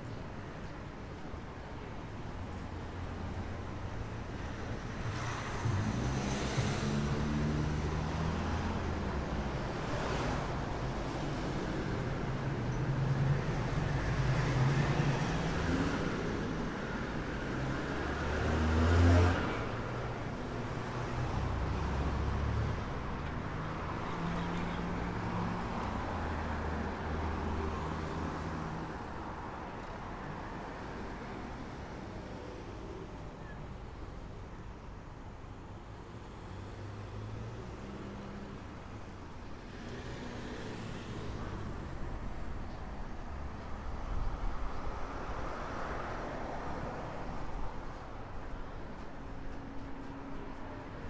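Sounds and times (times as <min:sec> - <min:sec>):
cars passing: 0:04.2 - 0:33.2, 0:36.1 - 0:51.0.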